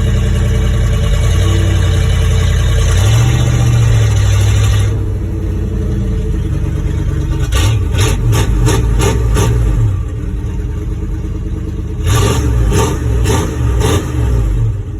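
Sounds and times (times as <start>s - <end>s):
unmuffled pickup engine revving: 0.0s - 14.9s.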